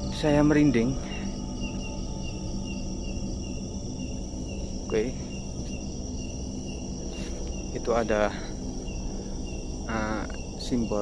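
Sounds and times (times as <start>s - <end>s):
crickets trilling: 0.0s - 11.0s
insect chirping: 0.0s - 11.0s.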